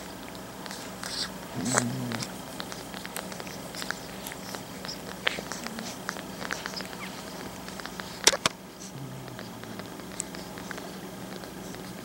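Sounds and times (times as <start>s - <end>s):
puppies squeaking and grunting: 0.0s - 12.0s.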